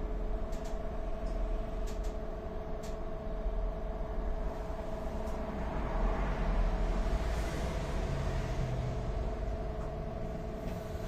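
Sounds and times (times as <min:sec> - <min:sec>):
trolleybus electrical hum: 0:00.0 - 0:11.0.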